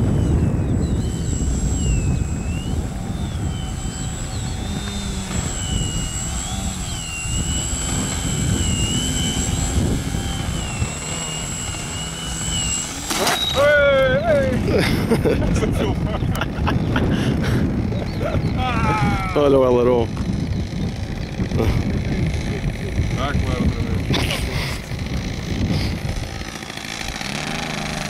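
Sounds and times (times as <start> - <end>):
model plane motor whining: 0.0 - 28.0
wind rumble on microphone: 0.0 - 28.0.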